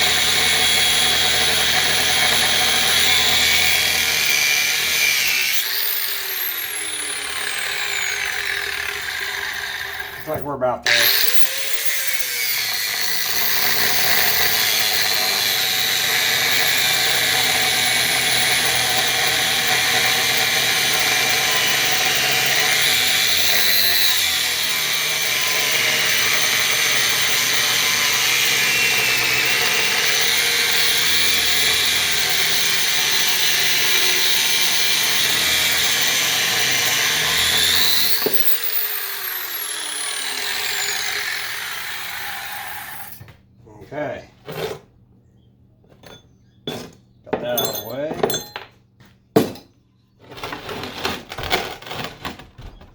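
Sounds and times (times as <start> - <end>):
grinder cutting metal shaft: 0.0 - 43.3, 47.4 - 48.6.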